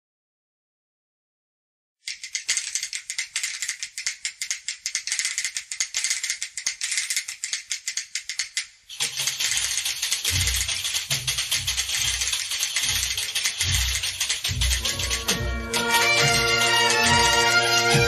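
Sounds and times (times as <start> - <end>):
shaker rattling: 2.0 - 18.0.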